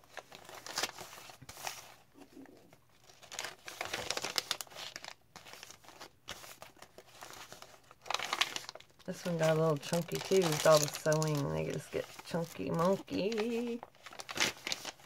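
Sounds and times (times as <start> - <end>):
paper pages rustling: 0.0 - 15.0.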